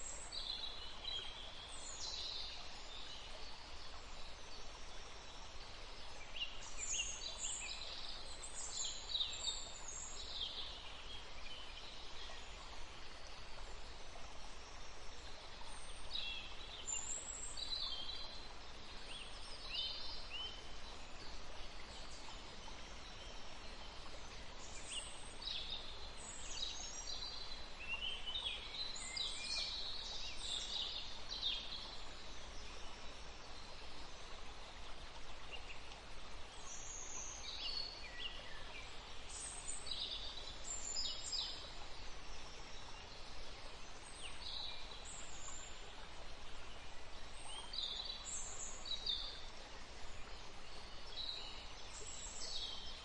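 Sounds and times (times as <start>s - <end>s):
songbirds chirping: 0.0s - 53.0s
steady background hiss: 0.0s - 53.0s.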